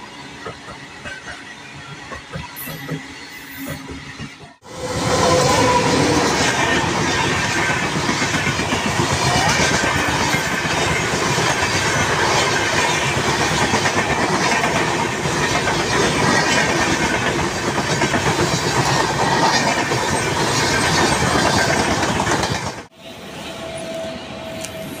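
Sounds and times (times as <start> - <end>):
train passing at speed: 0.0 - 25.0.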